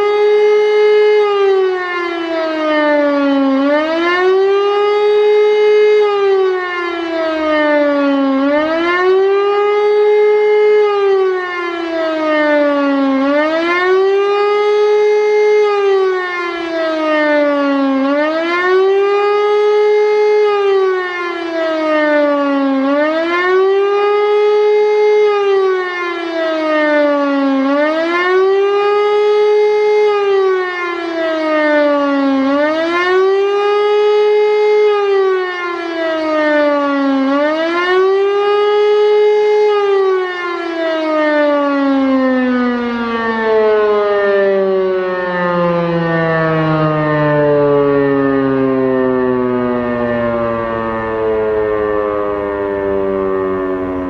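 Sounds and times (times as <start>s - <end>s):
motor siren rising and falling: 0.0s - 54.0s.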